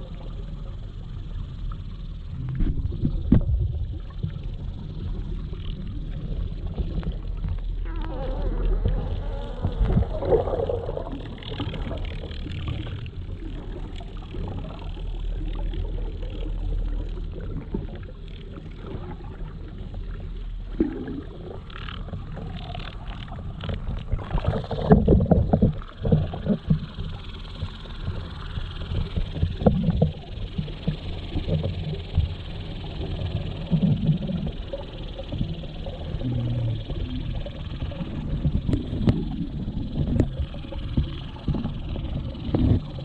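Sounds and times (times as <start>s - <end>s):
muffled underwater rumble: 0.0s - 43.0s.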